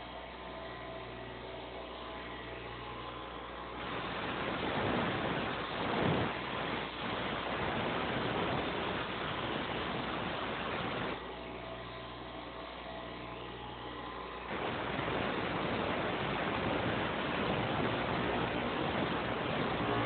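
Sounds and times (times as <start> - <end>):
grinder motor humming: 0.0 - 20.0.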